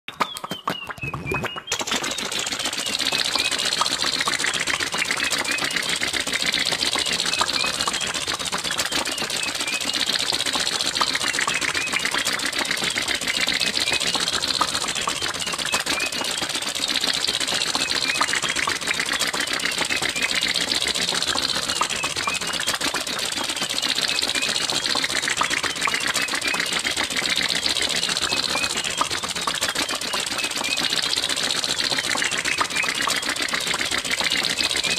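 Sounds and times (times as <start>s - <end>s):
cartoon car engine putt-putting: 0.1s - 34.9s.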